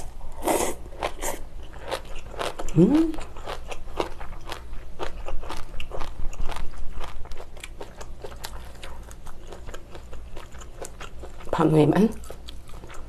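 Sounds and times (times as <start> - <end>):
chewing food with mouth clicks: 1.0 - 11.6, 12.2 - 13.0.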